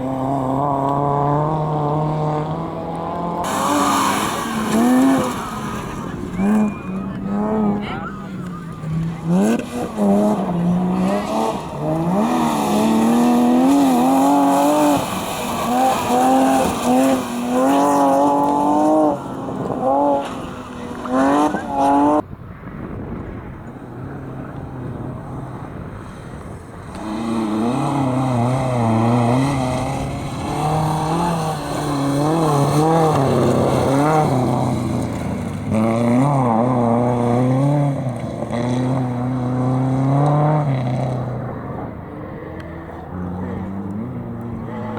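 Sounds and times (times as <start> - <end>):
car engines revving: 0.0 - 44.9
deeper car engine: 0.0 - 44.9.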